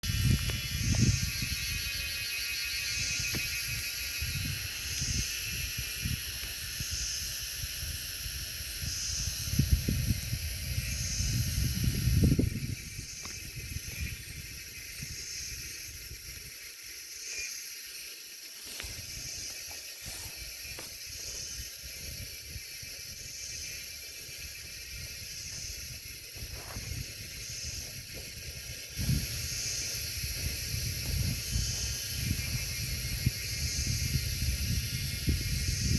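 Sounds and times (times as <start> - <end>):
wind gusting against microphone: 0.0 - 16.5, 18.8 - 35.9
pulsing high buzz: 0.0 - 18.0, 18.6 - 35.9.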